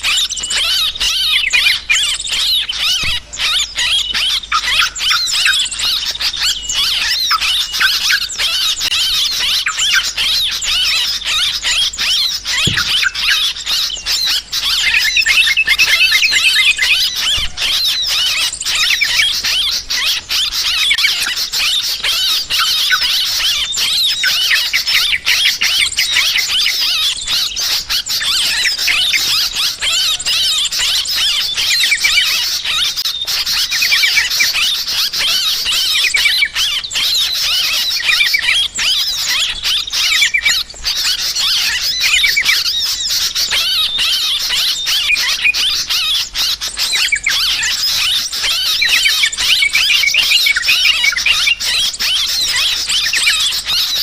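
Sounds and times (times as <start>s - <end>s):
bulbuls chattering calls: 0.0s - 54.0s.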